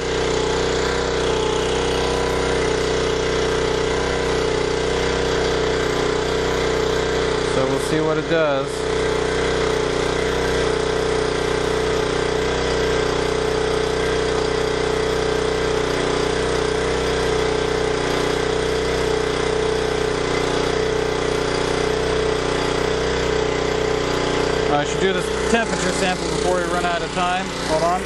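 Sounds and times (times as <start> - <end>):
portable generator engine running: 0.0 - 28.0.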